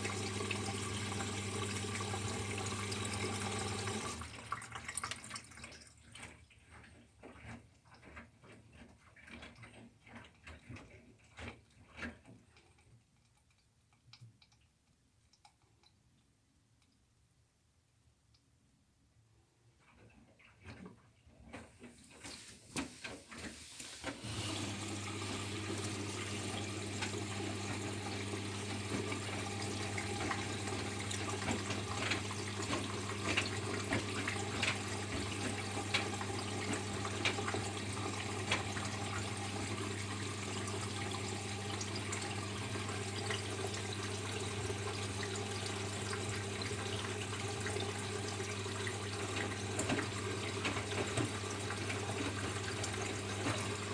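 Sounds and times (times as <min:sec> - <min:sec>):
washing machine hum and water: 0:00.0 - 0:16.3, 0:19.5 - 0:53.9.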